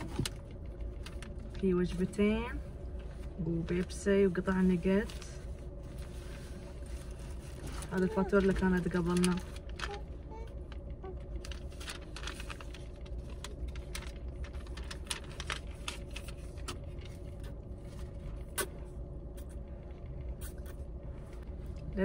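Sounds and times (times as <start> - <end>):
paper wrappers rustling: 0.0 - 2.2, 3.0 - 18.7.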